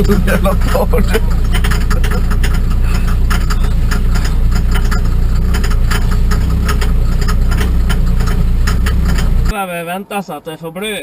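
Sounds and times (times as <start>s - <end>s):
diesel truck engine droning: 0.0s - 9.5s
rapid sharp clicks: 0.0s - 9.5s.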